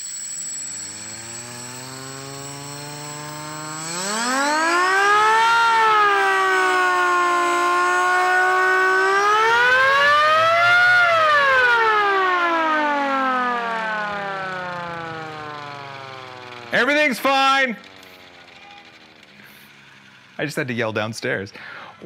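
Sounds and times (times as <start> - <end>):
rotary siren wailing: 0.0 - 19.2.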